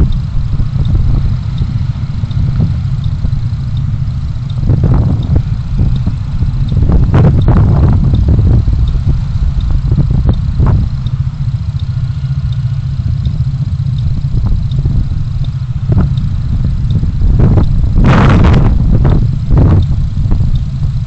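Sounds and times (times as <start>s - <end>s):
car engine and road noise: 0.0s - 21.0s
rushing noise: 0.0s - 21.0s.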